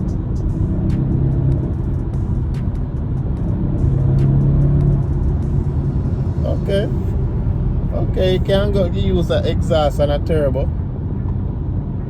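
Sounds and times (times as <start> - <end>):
car engine running: 0.0 - 12.0
road rumble: 0.0 - 12.0.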